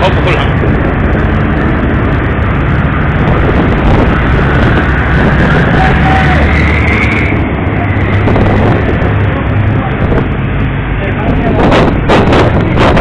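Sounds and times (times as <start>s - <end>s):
boat engine droning: 0.0s - 13.0s
wind and water rushing: 0.0s - 13.0s.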